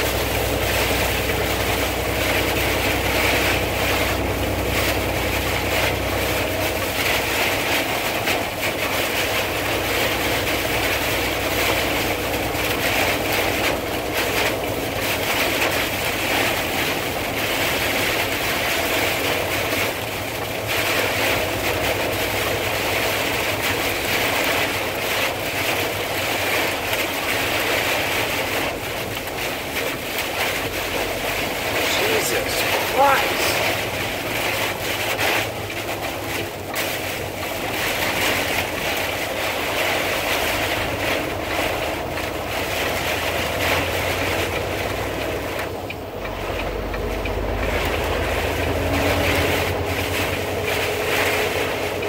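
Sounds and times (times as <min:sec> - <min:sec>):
heavy rain and wind on a car: 0:00.0 - 0:52.0.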